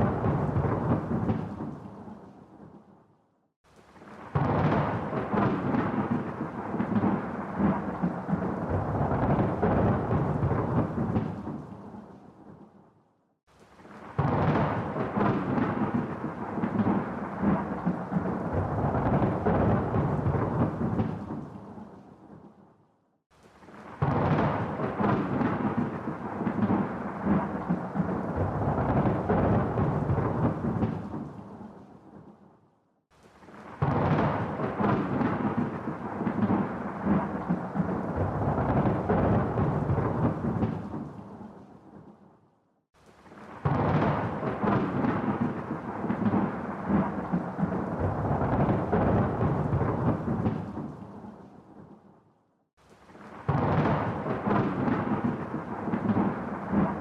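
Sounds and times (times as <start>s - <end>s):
rain: 0.0s - 2.8s, 3.6s - 12.7s, 13.5s - 22.5s, 23.3s - 32.3s, 33.1s - 42.2s, 43.0s - 52.0s, 52.8s - 57.0s
thunder rolling and crackling: 0.0s - 3.0s, 3.7s - 12.9s, 13.5s - 42.4s, 43.0s - 52.1s, 52.8s - 57.0s.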